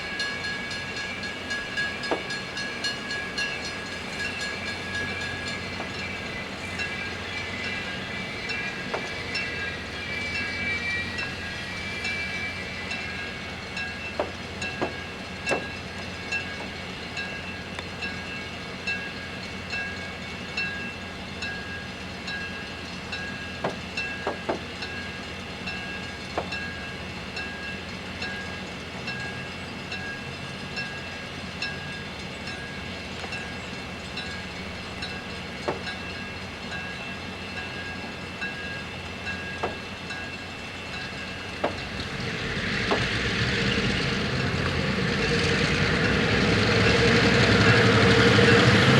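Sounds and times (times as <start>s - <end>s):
train rolling past: 0.0s - 48.9s.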